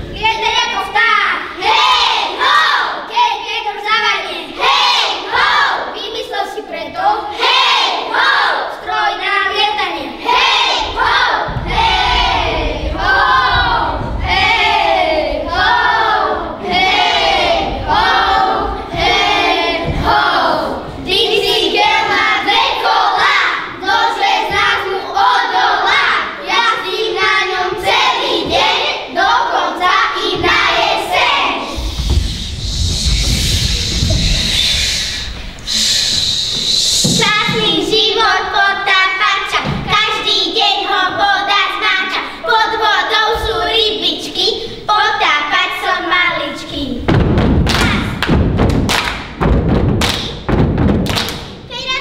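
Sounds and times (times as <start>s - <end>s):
children singing together: 0.0s - 46.6s.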